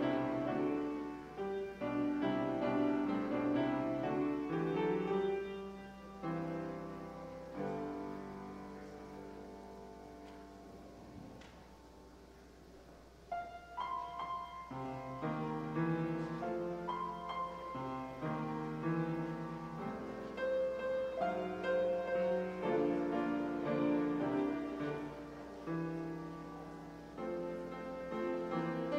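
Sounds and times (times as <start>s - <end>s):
grand piano playing slow piece: 0.0s - 28.9s.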